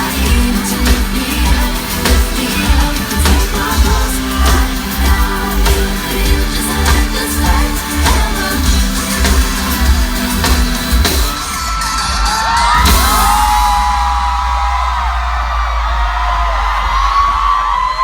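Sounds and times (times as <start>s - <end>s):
crowd screaming and cheering: 0.0s - 18.0s
live pop music: 0.0s - 18.0s.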